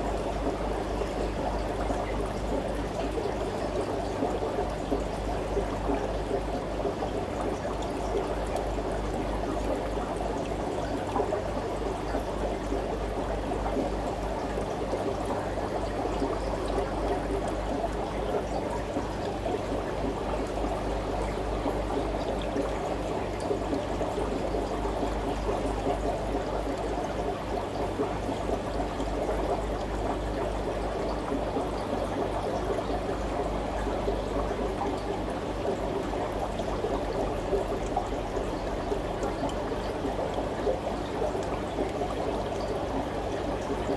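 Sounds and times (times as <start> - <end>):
low steady hum: 0.0 - 43.9
water trickling: 0.0 - 43.9.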